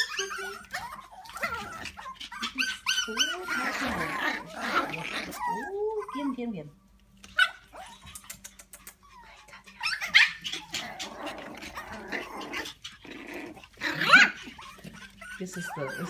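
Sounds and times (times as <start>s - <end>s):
puppies yipping: 0.0s - 6.6s, 7.2s - 16.0s
puppies play growling: 0.0s - 16.0s.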